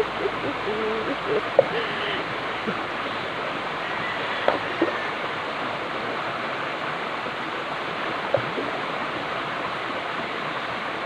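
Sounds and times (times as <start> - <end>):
stream water rushing over rocks: 0.0 - 11.0
water splashes: 0.0 - 11.0.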